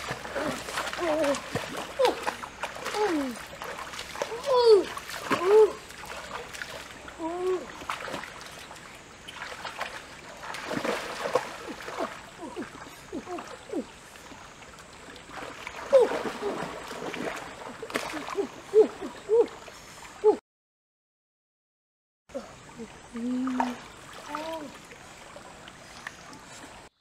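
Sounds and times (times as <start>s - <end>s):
stream water splashing: 0.0s - 20.4s, 22.4s - 27.0s.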